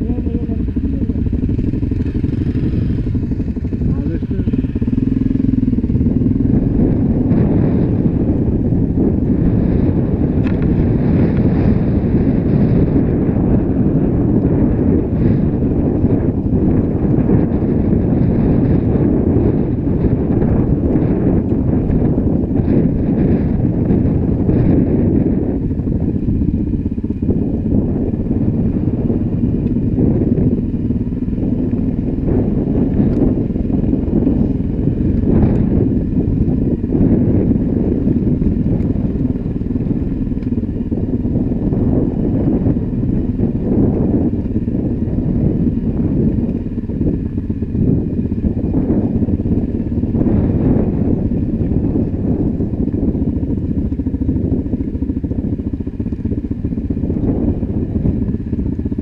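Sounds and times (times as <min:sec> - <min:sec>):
dirt bike engine running: 0:00.0 - 0:59.0
wind buffeting microphone: 0:00.0 - 0:59.0.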